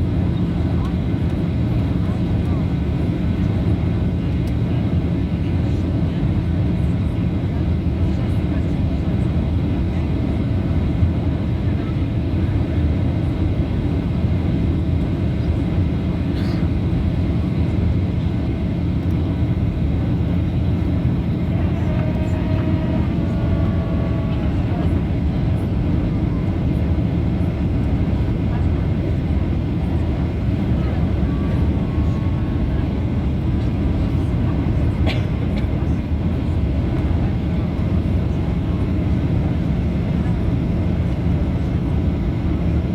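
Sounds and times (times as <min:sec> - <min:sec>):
airliner engines rumbling: 0:00.0 - 0:42.9.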